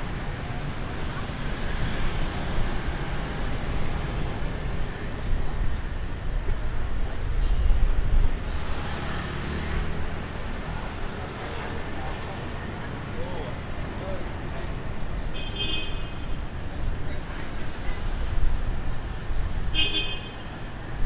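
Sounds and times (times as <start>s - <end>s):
traffic rumble of scooters and cars: 0.0s - 21.0s.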